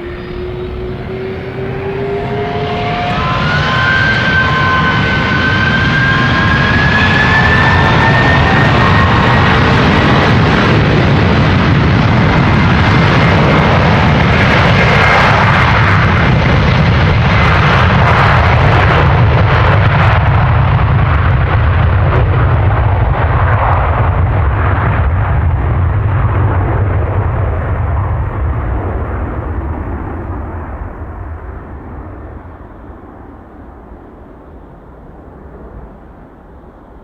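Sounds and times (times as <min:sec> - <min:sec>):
jet engine high whine: 0:00.0 - 0:37.0
jet engines rumbling: 0:00.0 - 0:37.0.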